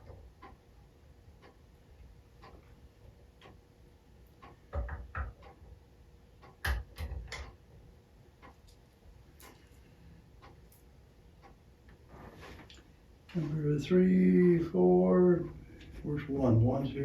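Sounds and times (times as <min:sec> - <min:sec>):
faint regular ticking: 0:00.0 - 0:12.1, 0:12.7 - 0:17.0.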